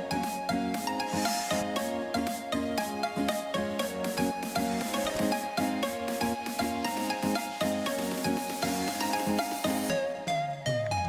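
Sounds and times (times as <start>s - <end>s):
bright instrumental tune with beat: 0.0s - 11.0s.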